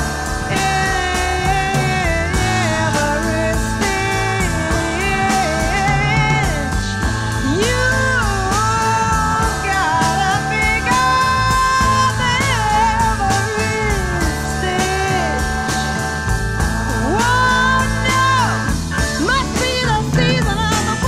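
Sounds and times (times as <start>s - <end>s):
psychedelic rock band playing: 0.0s - 21.0s.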